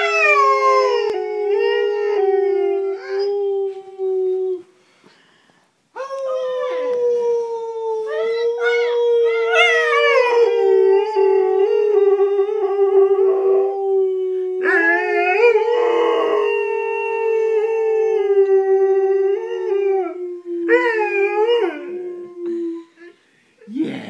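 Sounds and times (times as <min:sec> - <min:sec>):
dog howling: 0:00.0 - 0:04.6, 0:06.0 - 0:22.3.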